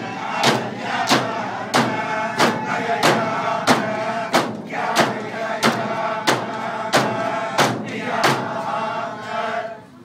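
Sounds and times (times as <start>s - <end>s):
frame drums beating: 0.0s - 8.8s
chorus chanting: 0.0s - 10.0s.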